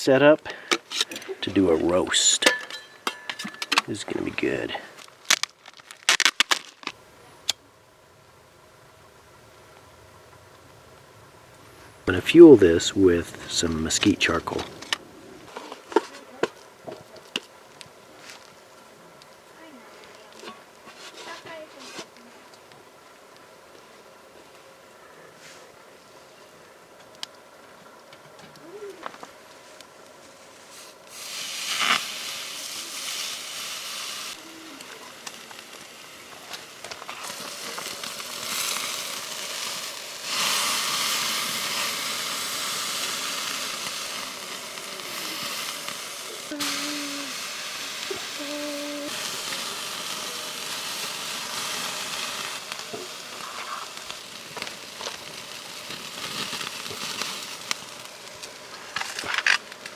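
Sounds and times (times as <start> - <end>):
food sizzling over charcoal: 0.0 - 59.9.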